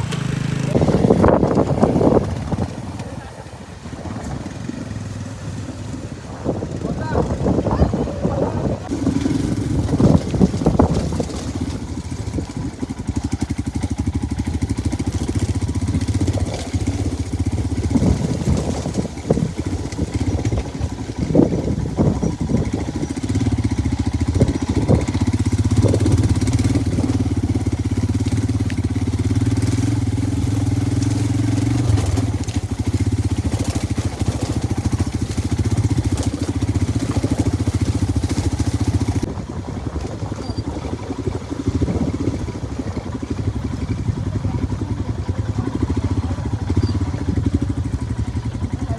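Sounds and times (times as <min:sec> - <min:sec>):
motorcycle engine droning: 0:00.0 - 0:48.9.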